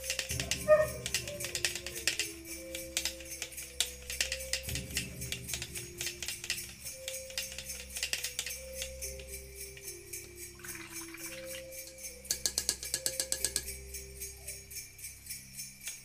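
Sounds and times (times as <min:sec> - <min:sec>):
jingling shaker rhythm: 0:00.0 - 0:16.0
light background music: 0:00.0 - 0:16.0.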